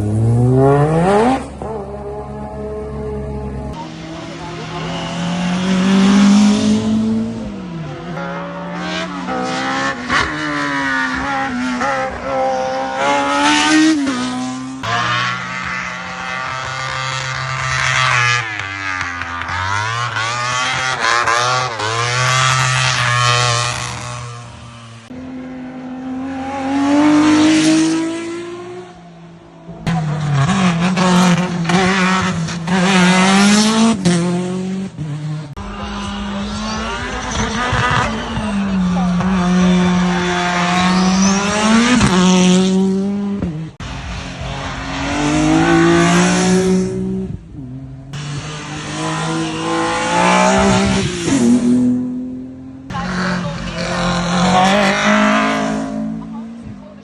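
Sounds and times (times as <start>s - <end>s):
race cars revving past: 0.0s - 57.0s.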